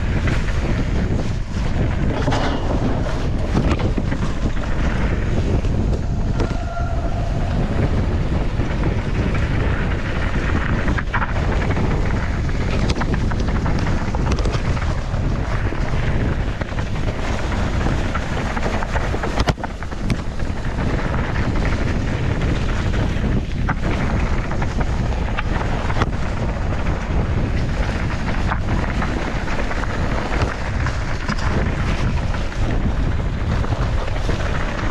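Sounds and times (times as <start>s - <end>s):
bike knocks and rattles: 0.0s - 6.8s, 7.6s - 34.9s
tyres rumbling on dirt trail: 0.0s - 34.9s
wind buffeting microphone: 0.0s - 34.9s.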